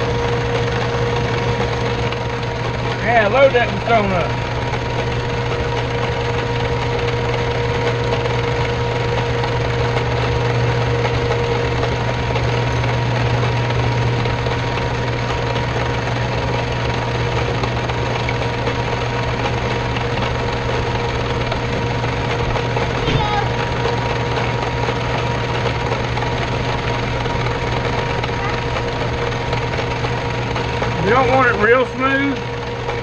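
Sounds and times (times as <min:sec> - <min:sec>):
lathe motor humming: 0:00.0 - 0:33.0.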